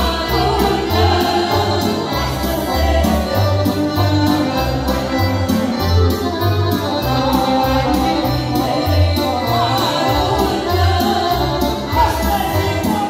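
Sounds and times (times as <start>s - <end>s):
women singing: 0.0s - 4.9s, 7.0s - 13.0s
accordion: 0.0s - 13.0s.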